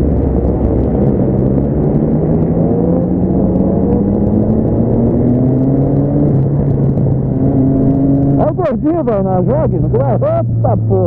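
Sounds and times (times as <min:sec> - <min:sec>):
motorcycle engine accelerating: 0:00.0 - 0:11.0
wind rush: 0:00.0 - 0:11.0.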